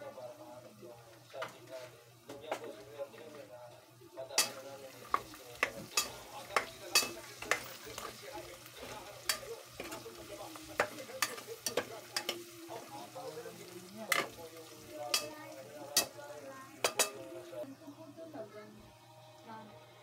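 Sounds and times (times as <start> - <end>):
meat sizzling in a pot: 0.0 - 19.4.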